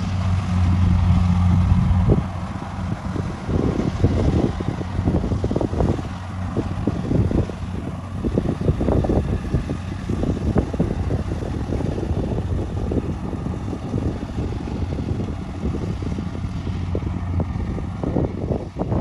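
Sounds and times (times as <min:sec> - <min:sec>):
combine harvester engine hum: 0:00.0 - 0:19.0
wind buffeting microphone: 0:00.0 - 0:19.0.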